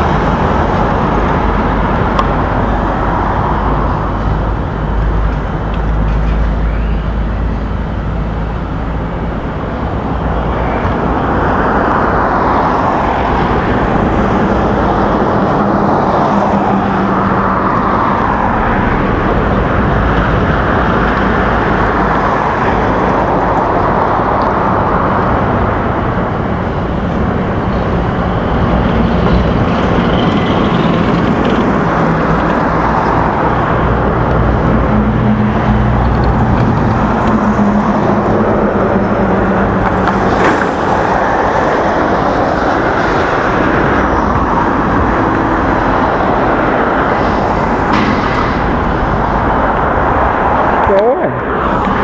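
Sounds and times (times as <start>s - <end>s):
low engine hum: 0.0s - 52.0s
street traffic: 0.0s - 52.0s.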